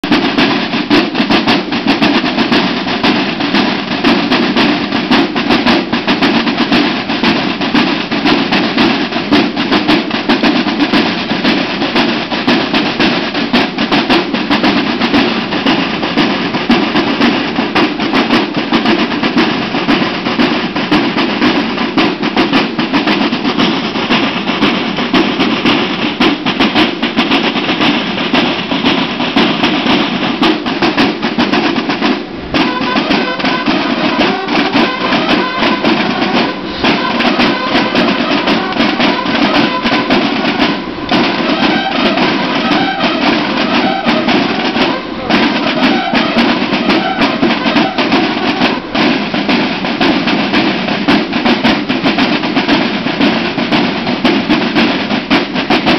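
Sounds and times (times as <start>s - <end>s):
military field drums drumming: 0.0s - 55.9s.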